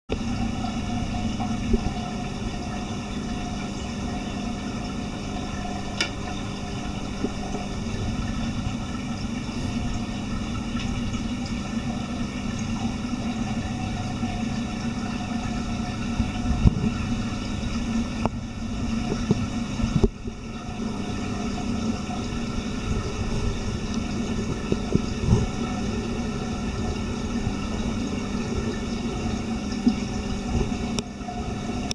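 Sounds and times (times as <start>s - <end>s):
aquarium pumps humming: 0.1s - 31.9s
circulating water: 0.1s - 31.9s.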